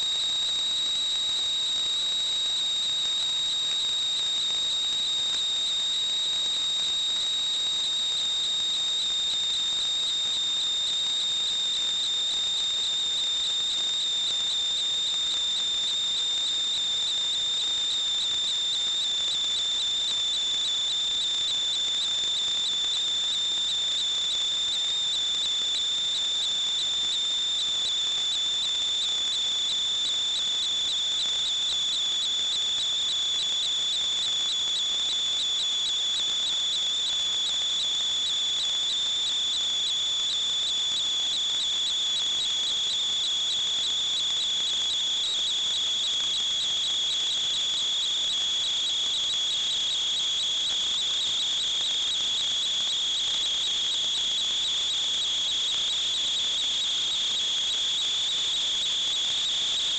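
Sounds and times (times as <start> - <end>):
steady high-pitched whistle: 0.0 - 59.9.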